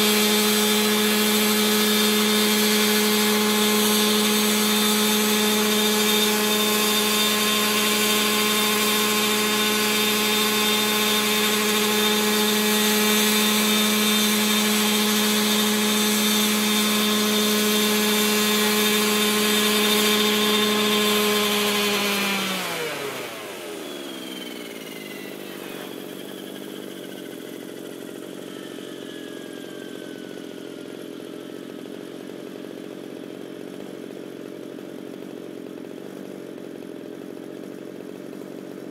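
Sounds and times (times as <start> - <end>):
rotor winding down whine: 0.0 - 33.8
model helicopter engine running: 0.0 - 38.9.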